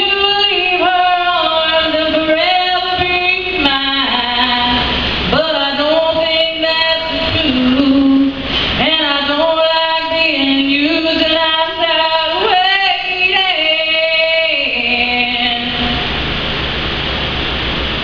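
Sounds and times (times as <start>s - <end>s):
woman singing unaccompanied: 0.0s - 16.0s
noisy room hiss: 0.0s - 18.0s.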